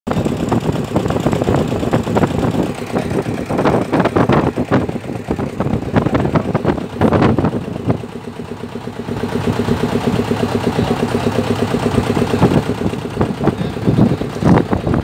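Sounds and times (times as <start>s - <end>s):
boat engine chugging: 0.1s - 15.0s.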